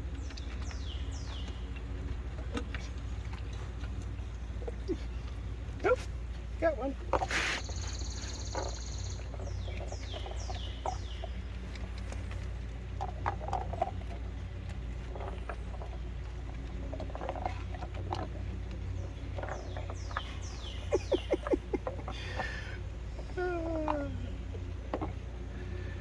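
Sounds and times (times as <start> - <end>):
birds chirping: 0.0 - 26.0
low hum: 0.0 - 26.0.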